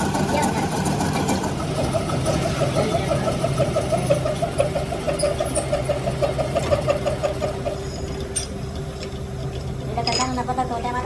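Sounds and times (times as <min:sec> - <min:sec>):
machine pulsing over low hum: 0:00.0 - 0:11.0.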